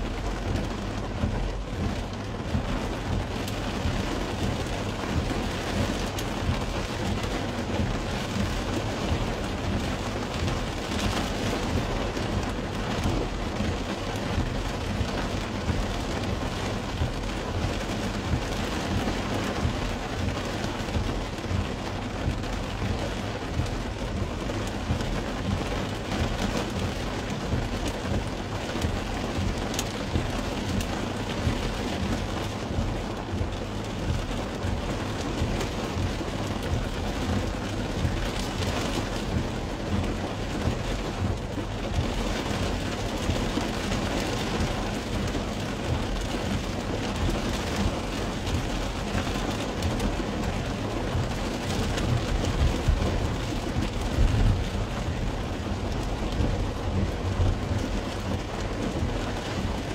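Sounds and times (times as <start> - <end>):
rain on car roof: 0.0 - 59.9.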